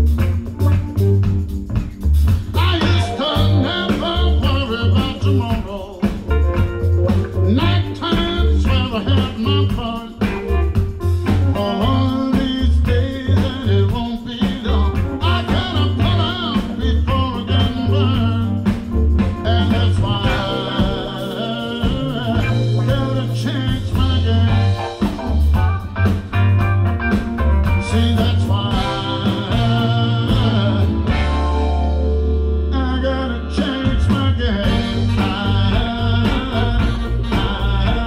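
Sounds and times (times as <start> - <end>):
blues band playing: 0.0 - 38.0
horn section: 2.4 - 5.9, 7.4 - 38.0
man singing: 2.4 - 6.7, 7.4 - 25.2, 27.6 - 31.7, 32.6 - 38.0.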